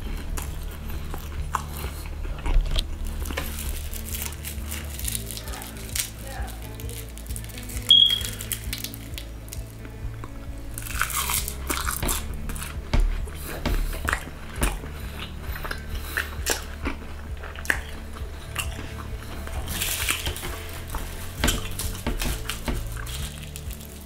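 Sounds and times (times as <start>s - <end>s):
crisp crunching bite: 0.0s - 9.8s, 10.7s - 12.8s, 13.5s - 24.0s
chewing with clicks and smacks: 0.0s - 24.0s.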